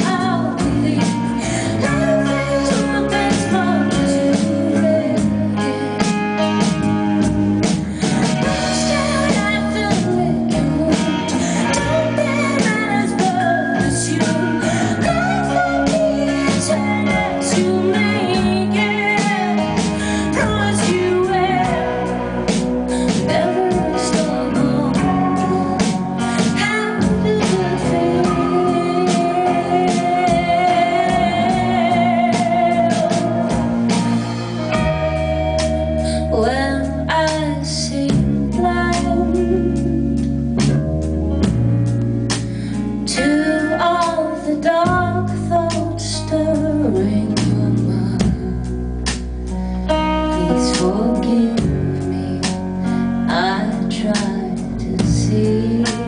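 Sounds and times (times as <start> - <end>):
woman singing with vibrato: 0.0 - 6.0, 7.9 - 40.3, 43.1 - 48.6, 50.2 - 56.0
live rock band: 0.0 - 56.0.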